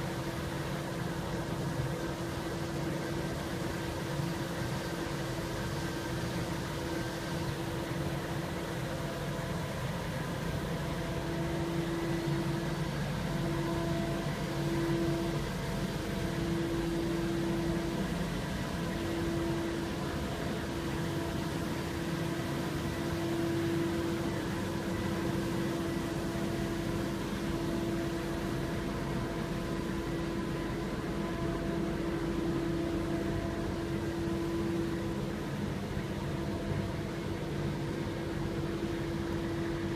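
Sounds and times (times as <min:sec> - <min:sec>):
street sweeper engine drone: 0:00.0 - 0:39.9
street sweeper whine: 0:00.0 - 0:39.9.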